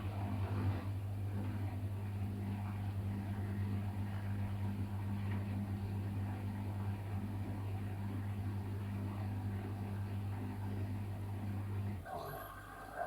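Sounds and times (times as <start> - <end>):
washing machine running: 0.0 - 13.0.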